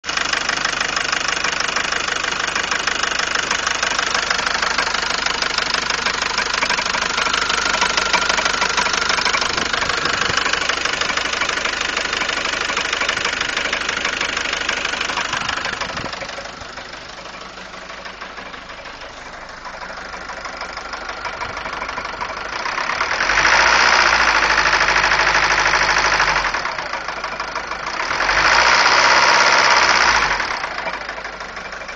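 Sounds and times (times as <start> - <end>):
diesel engine knocking: 0.0 - 31.9.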